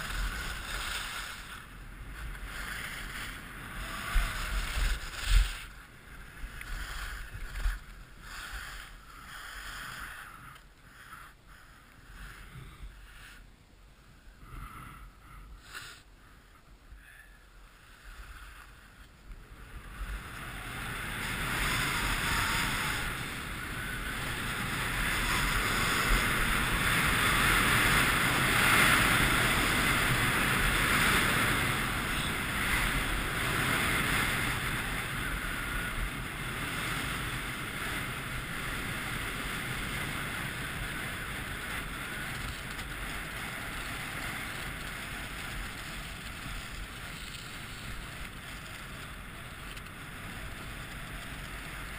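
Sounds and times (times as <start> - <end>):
skis scraping on packed snow: 0.0 - 10.5, 19.5 - 51.9
wind rushing over camera: 0.0 - 51.9.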